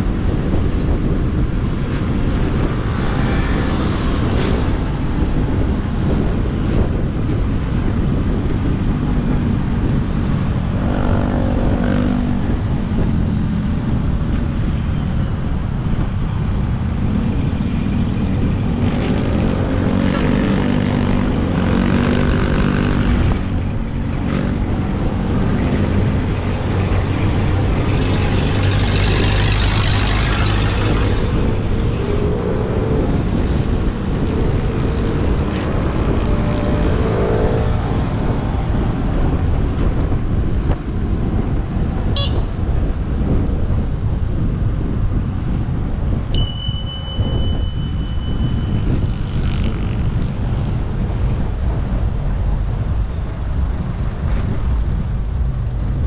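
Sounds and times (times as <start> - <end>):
road traffic engines: 0.0 - 56.0
wind rumble on microphone: 0.0 - 56.0.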